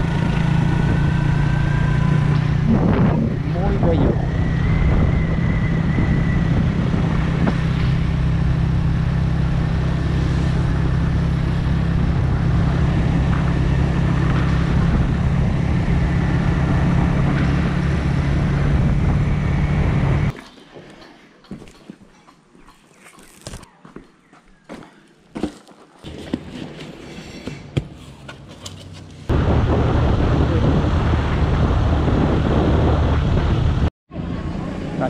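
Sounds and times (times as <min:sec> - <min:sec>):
road and wind noise: 0:00.0 - 0:35.0.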